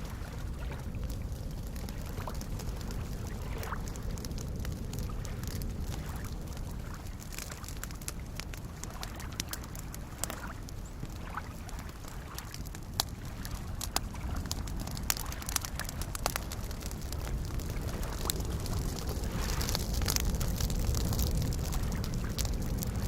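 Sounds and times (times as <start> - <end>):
lake waves lapping: 0.0 - 22.5
campfire crackling and popping: 0.0 - 23.0.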